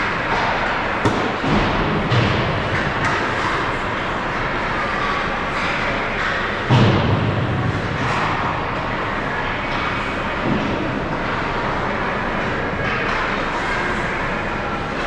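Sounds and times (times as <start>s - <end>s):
skating and arena noise: 0.0s - 15.0s.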